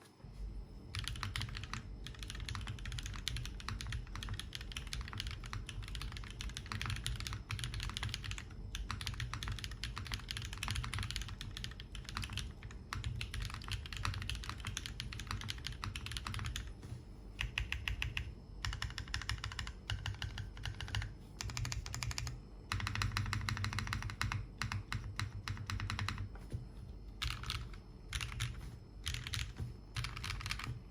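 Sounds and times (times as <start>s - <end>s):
typing on mechanical keyboard: 0.9s - 16.7s, 17.4s - 26.4s, 27.2s - 30.9s.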